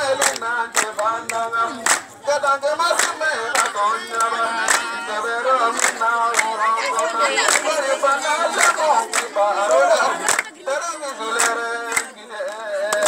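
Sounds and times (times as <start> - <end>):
hand claps: 0.0 - 5.0, 5.6 - 7.8, 8.5 - 10.6, 11.2 - 13.0
group of voices singing: 0.0 - 13.0.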